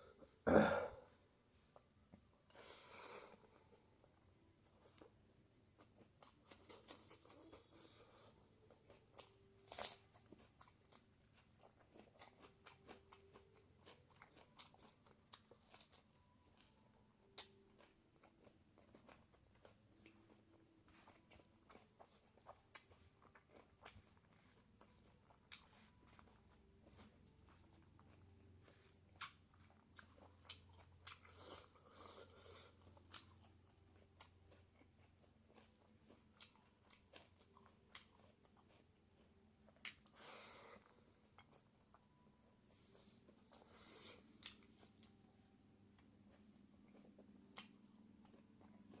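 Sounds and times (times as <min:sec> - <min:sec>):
person chewing food: 0:01.7 - 0:49.0.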